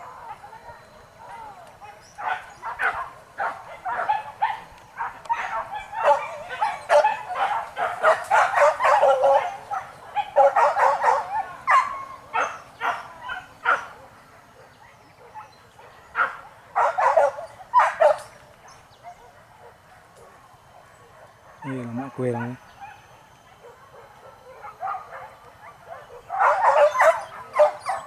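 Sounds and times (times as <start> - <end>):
dogs barking and yelping: 0.0 - 28.0.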